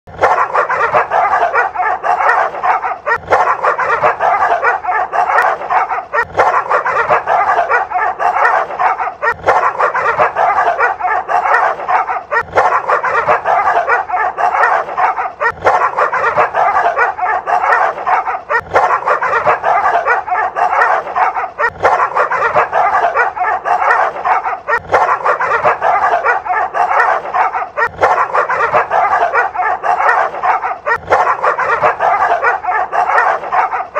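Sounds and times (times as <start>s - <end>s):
dogs yapping and barking: 0.1s - 33.9s.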